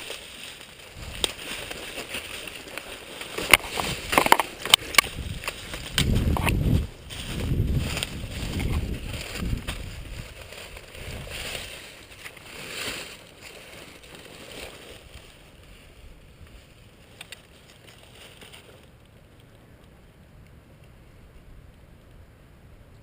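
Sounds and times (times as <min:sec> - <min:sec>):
rustling through brush: 0:00.0 - 0:22.2.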